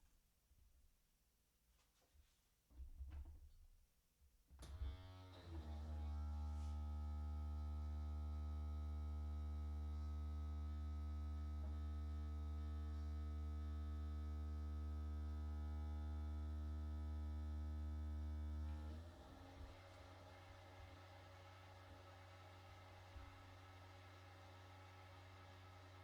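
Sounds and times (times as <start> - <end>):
coffee maker electrical hum: 4.7 - 26.0.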